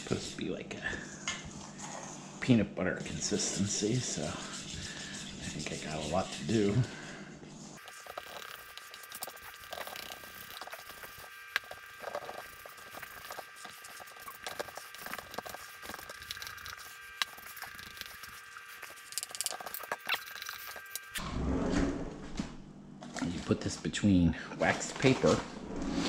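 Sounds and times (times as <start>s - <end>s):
faint steady hum: 0.0s - 21.4s.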